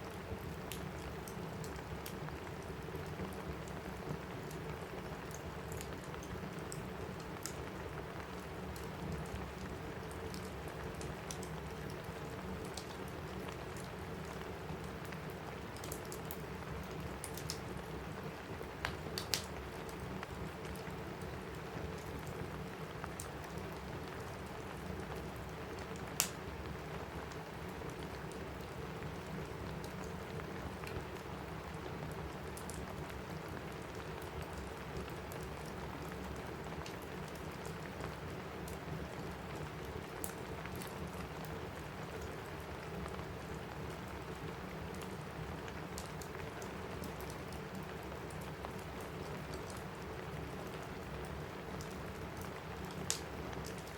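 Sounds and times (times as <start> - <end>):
rain on a roof: 0.0 - 53.9
wood fire crackling: 0.1 - 53.9.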